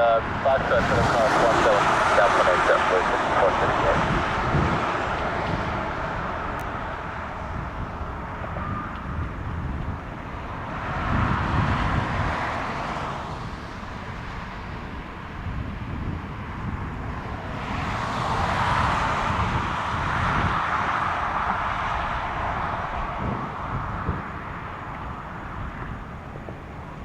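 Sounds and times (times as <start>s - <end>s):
jet engines rumbling: 0.0s - 27.0s
wind gusting on microphone: 0.0s - 27.0s.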